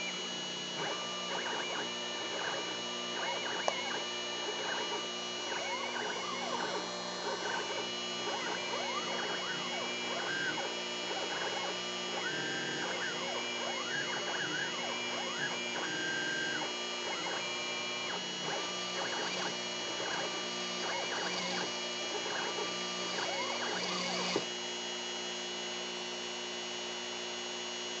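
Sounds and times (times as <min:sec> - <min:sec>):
rotary tool spinning whine: 0:00.0 - 0:24.5
stepper motors whining: 0:00.8 - 0:24.4.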